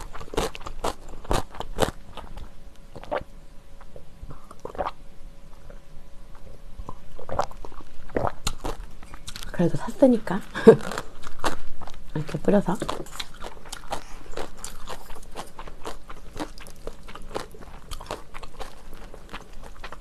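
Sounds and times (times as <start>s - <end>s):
chewing and crunching: 0.0s - 9.6s, 10.6s - 20.0s.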